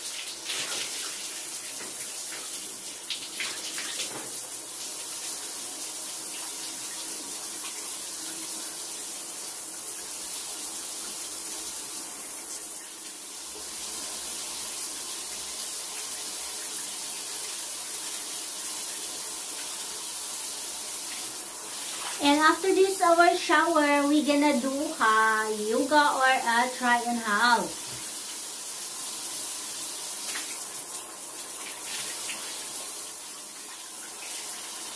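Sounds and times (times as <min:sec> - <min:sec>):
shower running: 0:00.0 - 0:34.9.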